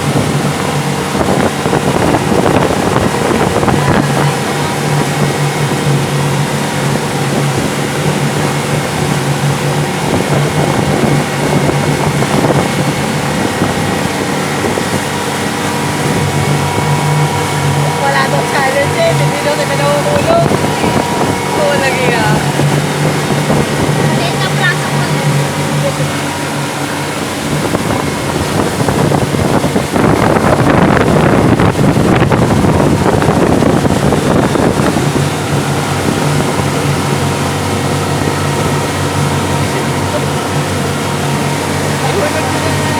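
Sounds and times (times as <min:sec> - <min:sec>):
motorboat engine running: 0:00.0 - 0:42.9
water noise: 0:00.0 - 0:42.9
wind on microphone: 0:00.0 - 0:42.9.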